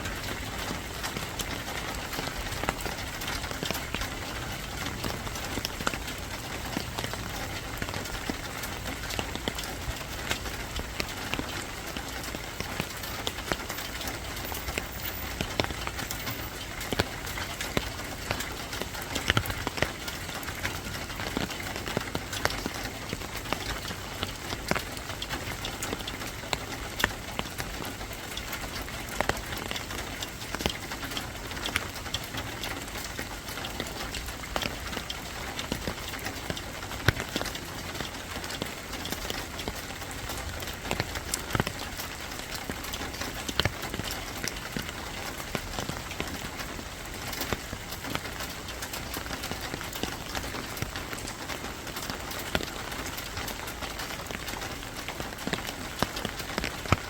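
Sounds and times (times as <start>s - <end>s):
raindrops tapping a surface: 0.0s - 57.0s
steady rain falling: 0.0s - 57.0s.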